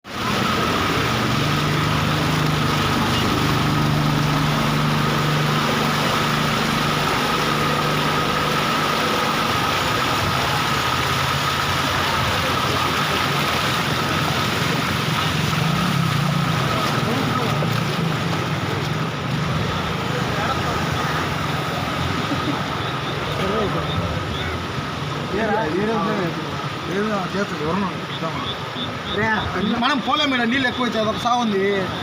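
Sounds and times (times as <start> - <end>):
flood water rushing: 0.0 - 32.0
low engine-like hum: 0.1 - 26.9.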